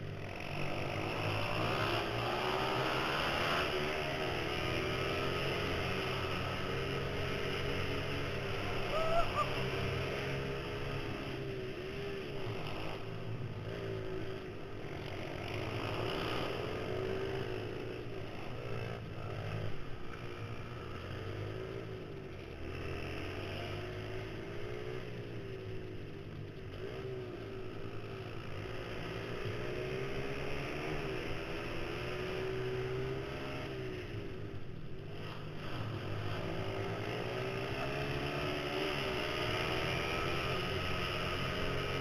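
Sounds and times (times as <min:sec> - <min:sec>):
small motorbike engine revving: 0:00.0 - 0:42.0.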